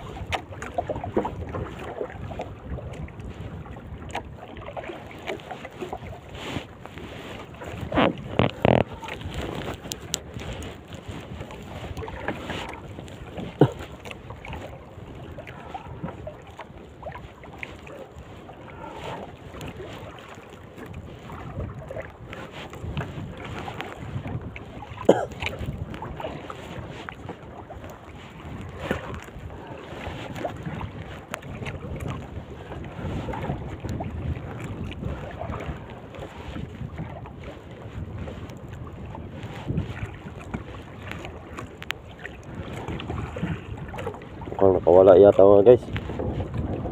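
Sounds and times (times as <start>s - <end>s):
water moving around boat: 0.0s - 46.9s
wind buffeting microphone: 0.0s - 46.9s.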